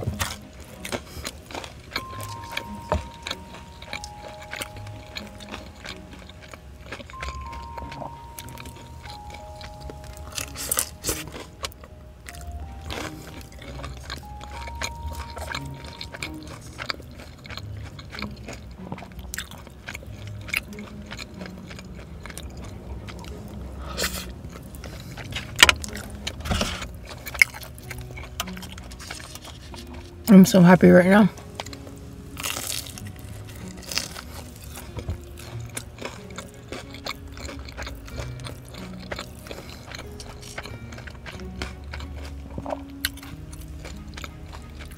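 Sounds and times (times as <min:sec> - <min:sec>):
crunchy bites: 0:00.0 - 0:30.3, 0:31.3 - 0:44.9
chewing fried chicken: 0:00.0 - 0:44.9
soft tune of held notes: 0:00.0 - 0:44.9.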